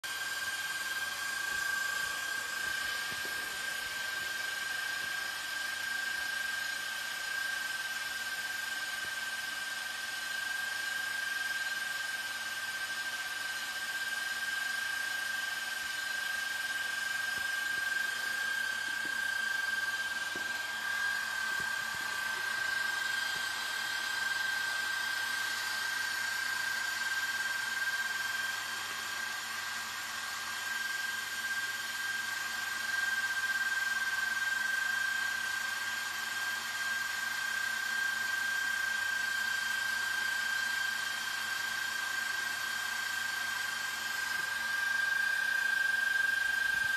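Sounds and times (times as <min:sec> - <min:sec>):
small cooling fan whining: 0:00.0 - 0:46.9.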